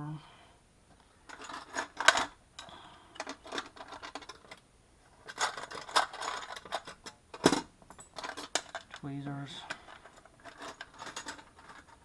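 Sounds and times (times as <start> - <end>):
small metal tools clattering: 1.2 - 4.6, 5.2 - 12.0.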